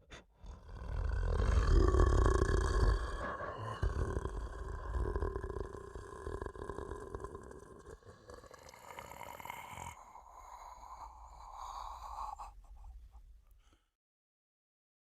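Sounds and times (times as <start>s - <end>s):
creature growl: 0.0s - 12.6s.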